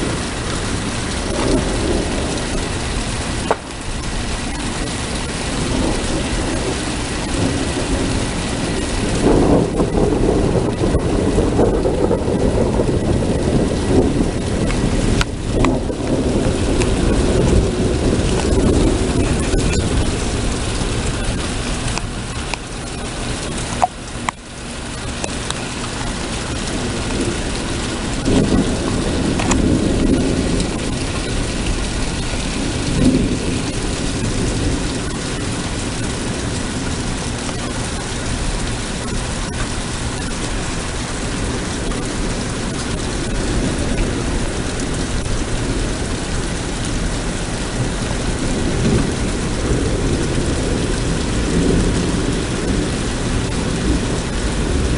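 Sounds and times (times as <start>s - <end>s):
heavy rain: 0.0s - 54.9s
low rolling thunder: 0.0s - 54.9s.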